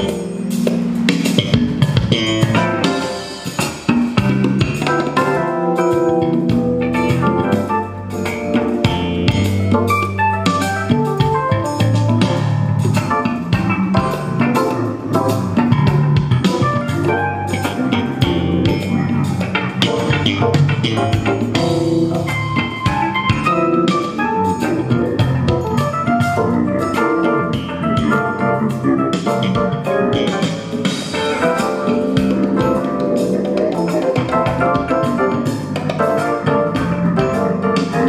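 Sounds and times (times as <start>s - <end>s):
music with drum kit over loudspeakers: 0.0s - 38.0s.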